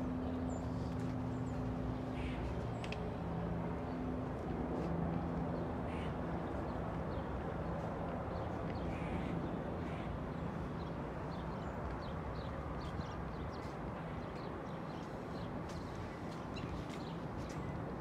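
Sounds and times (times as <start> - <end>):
distant city traffic rumble: 0.0 - 18.0.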